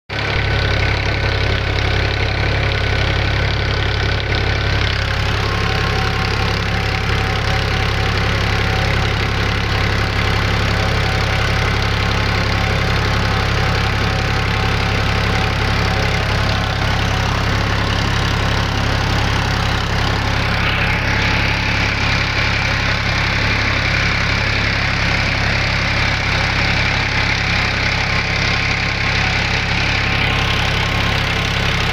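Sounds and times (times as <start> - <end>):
farm machinery engine clatter: 0.1 - 31.9.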